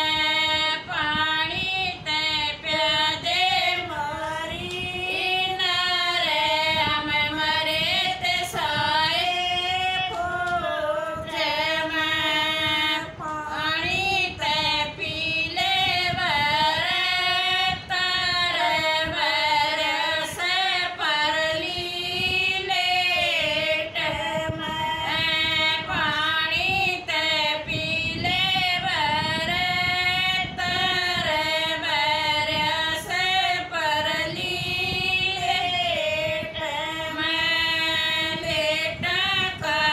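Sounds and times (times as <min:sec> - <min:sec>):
women singing unaccompanied: 0:00.0 - 0:39.9.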